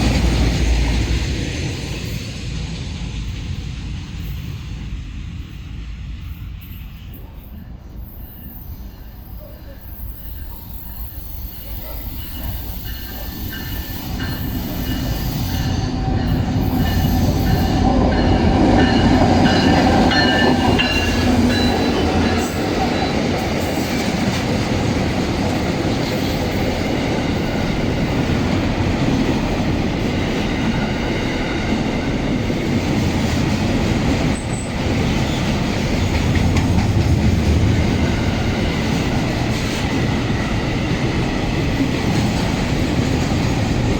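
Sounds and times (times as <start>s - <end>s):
freight train rolling past: 0.0s - 43.9s.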